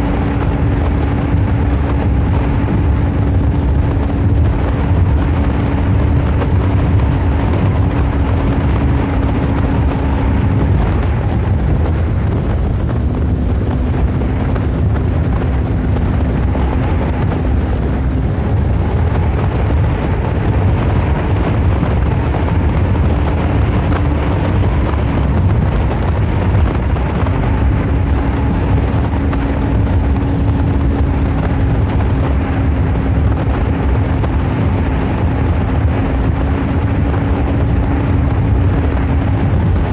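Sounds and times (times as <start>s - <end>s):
water along boat hull: 0.0s - 39.9s
wind on microphone: 0.0s - 39.9s.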